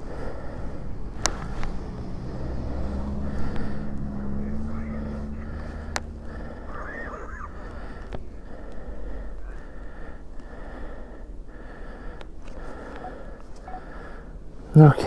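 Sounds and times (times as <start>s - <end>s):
person breathing: 0.0s - 14.7s.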